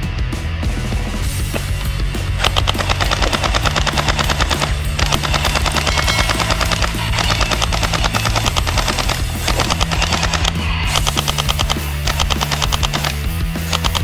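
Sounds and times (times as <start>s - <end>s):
toy blaster firing rapidly: 2.4s - 14.0s.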